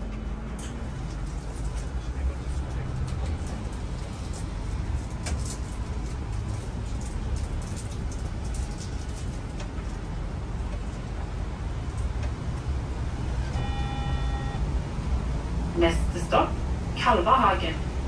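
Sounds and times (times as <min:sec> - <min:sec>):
bus rumbling with road noise: 0:00.0 - 0:18.0.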